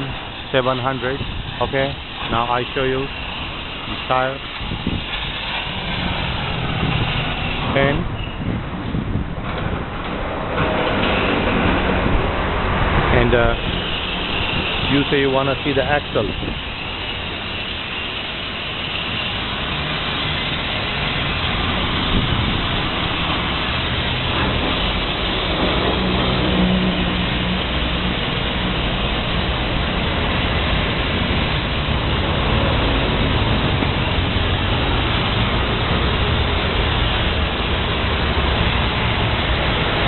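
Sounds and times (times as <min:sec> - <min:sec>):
vehicle rumble and hiss: 0:00.0 - 0:40.0.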